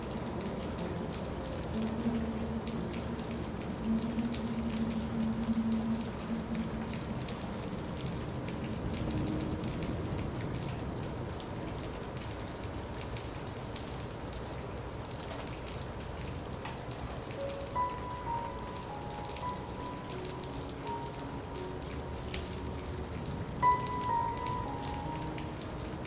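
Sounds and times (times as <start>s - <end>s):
low steady tone: 0.0s - 14.3s, 17.4s - 26.0s
rain falling: 0.0s - 26.0s.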